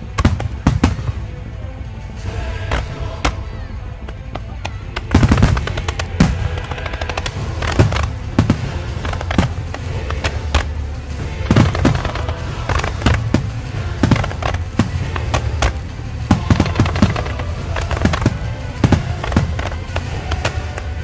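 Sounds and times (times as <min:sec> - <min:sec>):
fireworks exploding: 0:00.0 - 0:01.6, 0:04.0 - 0:21.0
low rumble: 0:00.0 - 0:21.0.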